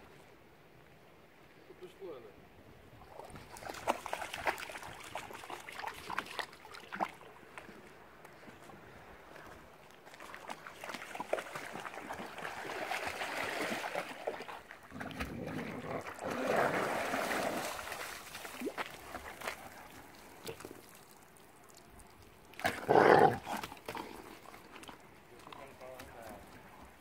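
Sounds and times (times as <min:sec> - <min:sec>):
dogs splashing through water: 0:03.0 - 0:08.0, 0:09.4 - 0:27.0.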